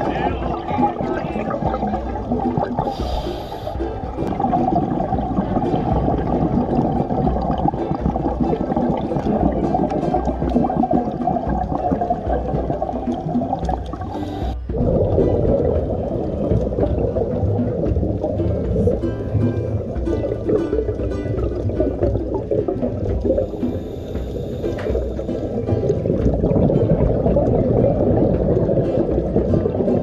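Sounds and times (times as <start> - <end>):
scuba bubbles: 0.0 - 30.0
underwater rumble and gurgle: 0.0 - 30.0.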